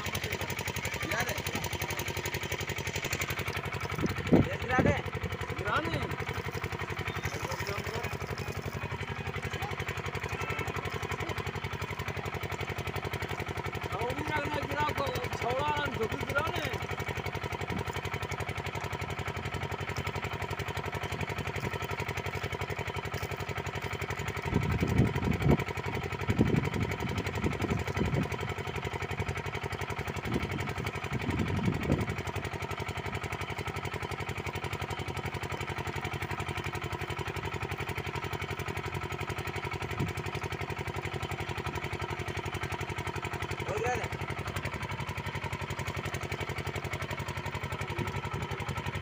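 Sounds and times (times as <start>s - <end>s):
motor droning hum: 0.0s - 49.0s.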